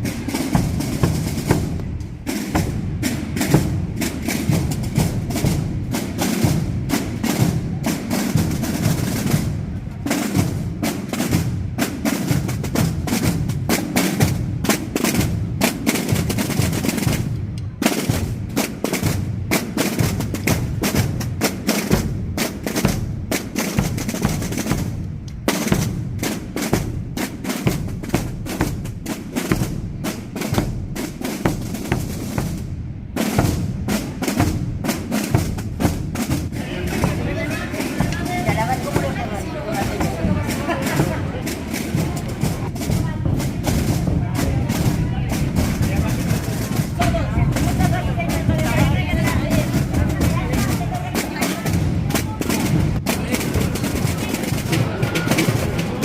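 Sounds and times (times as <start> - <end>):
booming bass drum beats: 0.0 - 17.4, 18.1 - 56.0
snare drum rolls: 0.0 - 56.0.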